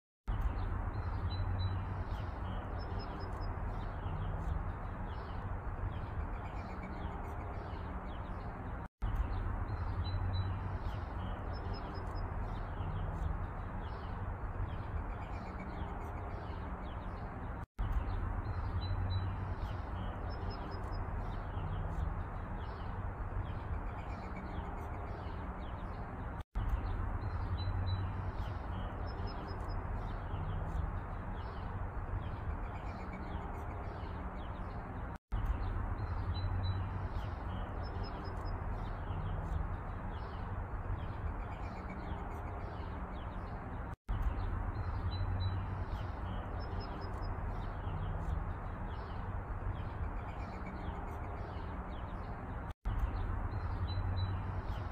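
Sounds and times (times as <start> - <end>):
small birds chirping: 0.3 - 54.9.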